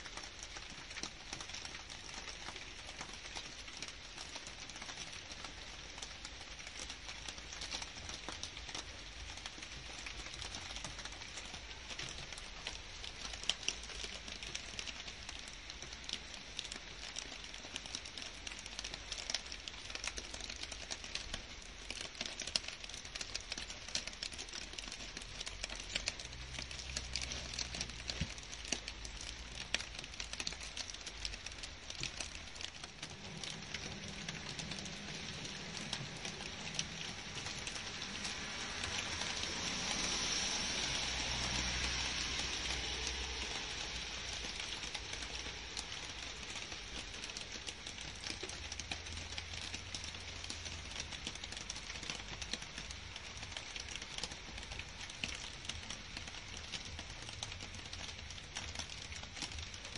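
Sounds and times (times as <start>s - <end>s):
rain on leaves: 0.0s - 59.9s
raindrops pattering: 0.0s - 59.9s.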